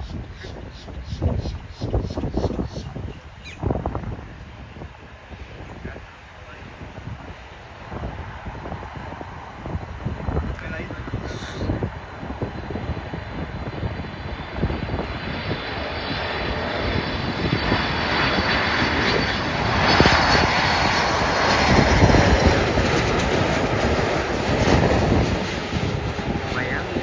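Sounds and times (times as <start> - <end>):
high fan whine: 0.0 - 27.0
jet engine rumble: 0.0 - 27.0.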